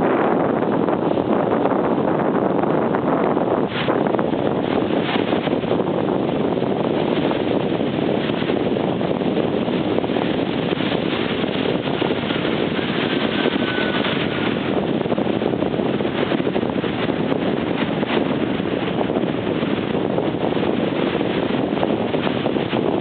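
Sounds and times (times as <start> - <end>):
ocean surf: 0.0 - 23.0
wind on microphone: 0.0 - 23.0.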